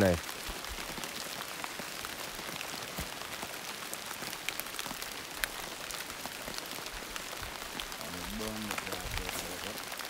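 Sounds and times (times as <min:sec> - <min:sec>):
light rain falling: 0:00.0 - 0:10.0
raindrops ticking: 0:00.0 - 0:10.0.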